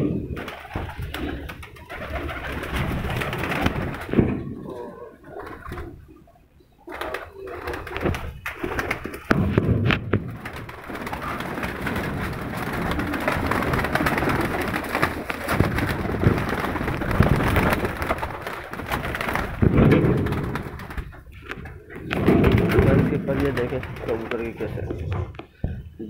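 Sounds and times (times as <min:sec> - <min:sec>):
pigeons cooing: 0:00.0 - 0:09.4, 0:10.0 - 0:25.8
pigeon wings flapping: 0:00.2 - 0:04.6, 0:05.3 - 0:06.0, 0:06.9 - 0:25.4.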